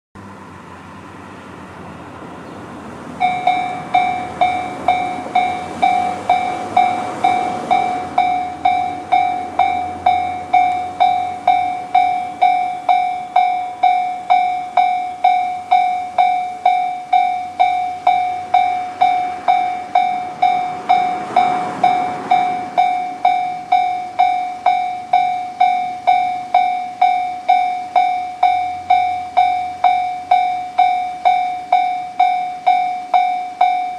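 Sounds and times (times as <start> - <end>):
level crossing alarm ringing: 3.2 - 33.9.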